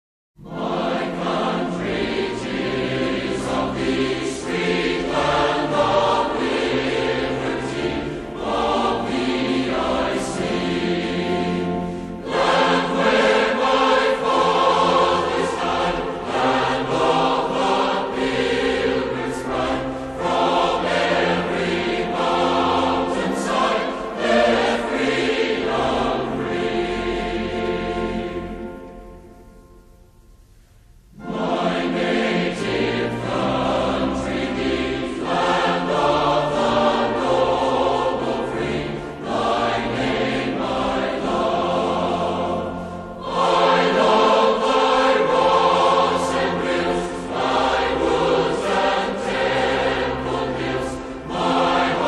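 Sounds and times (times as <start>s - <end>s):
choir singing: 0.4s - 29.6s, 31.1s - 52.0s.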